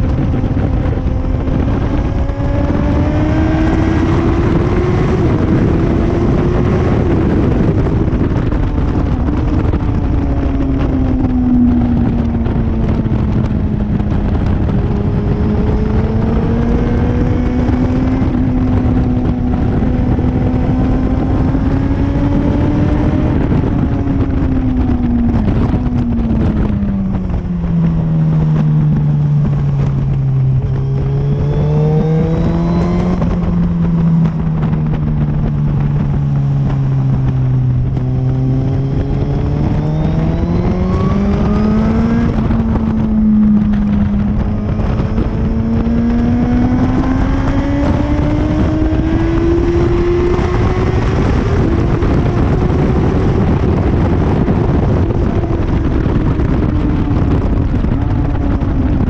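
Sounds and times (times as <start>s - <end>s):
motorcycle engine at speed: 0.0s - 59.0s
wind rush: 0.0s - 59.0s.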